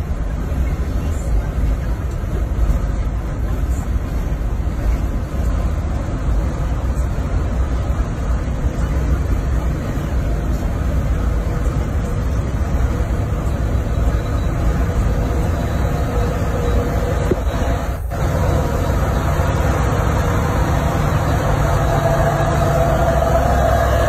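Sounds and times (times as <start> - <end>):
truck engines rumbling uphill: 0.0 - 24.0
tyre and road noise: 0.0 - 24.0.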